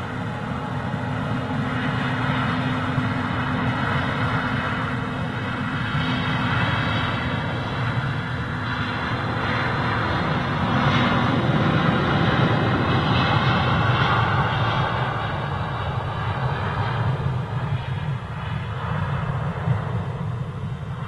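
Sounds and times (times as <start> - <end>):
high engine whine: 0.0 - 21.0
jet engines at take-off thrust: 0.0 - 21.0.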